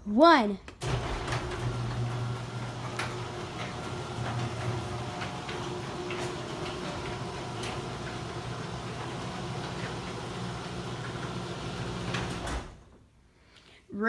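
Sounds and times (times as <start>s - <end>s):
garage door opener motor hum: 0.8s - 13.0s.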